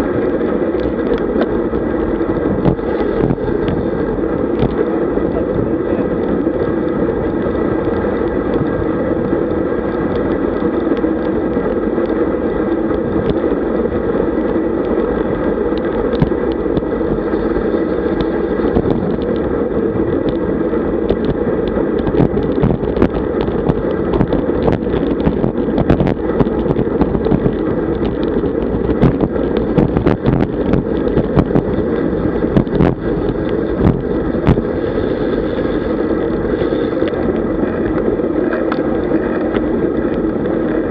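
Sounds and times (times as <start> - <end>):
bike rattling clicks and knocks: 0.0 - 40.9
road noise rumble: 0.0 - 40.9
wind rushing over microphone: 0.0 - 40.9.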